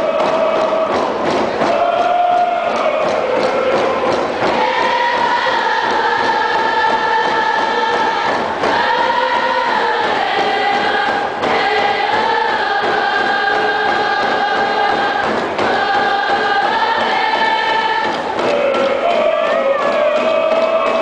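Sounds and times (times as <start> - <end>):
group singing in unison: 0.0 - 21.0.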